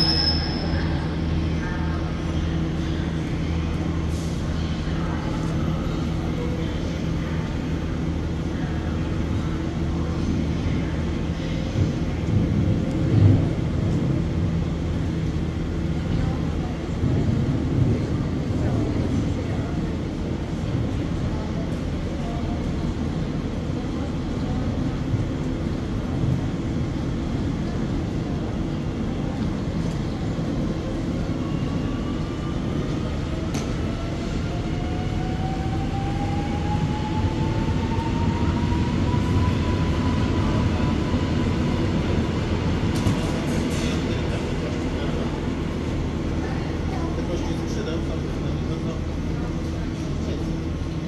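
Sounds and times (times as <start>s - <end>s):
electric train rumbling: 0.0s - 51.0s.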